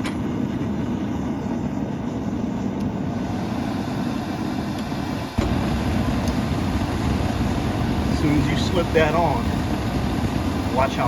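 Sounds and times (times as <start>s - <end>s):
gas forge burner rushing: 0.0s - 11.0s.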